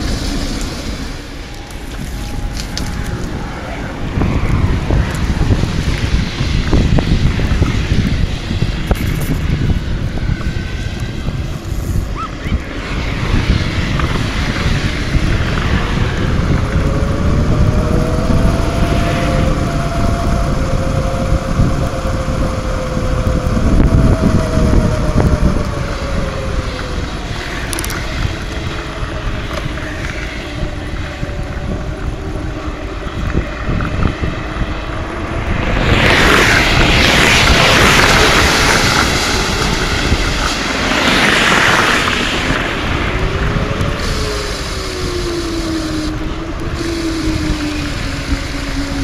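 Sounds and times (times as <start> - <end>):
highway traffic passing: 0.0 - 49.0
vehicle whine: 0.0 - 49.0
wind buffeting microphone: 0.0 - 49.0.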